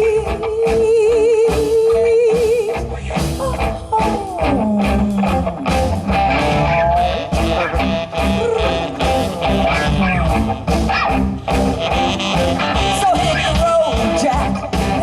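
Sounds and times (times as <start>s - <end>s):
electric guitar sliding lines: 0.0s - 15.0s
live rock band playing: 0.0s - 15.0s.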